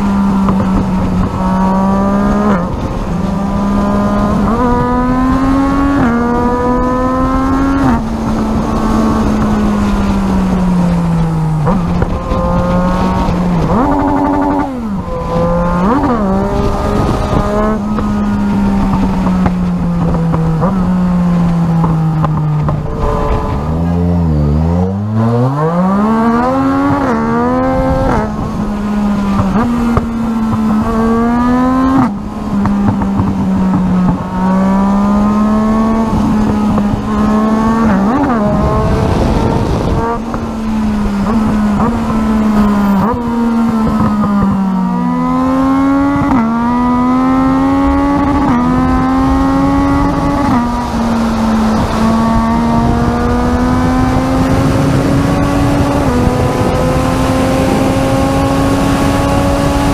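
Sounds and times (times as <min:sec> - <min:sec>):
motorcycle engine shifting gears: 0:00.0 - 0:59.9
rush of wind noise: 0:00.0 - 0:59.9.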